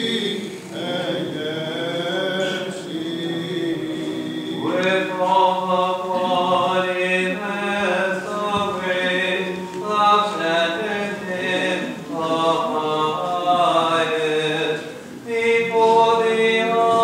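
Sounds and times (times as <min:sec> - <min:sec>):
voices chanting long held notes: 0:00.0 - 0:17.0.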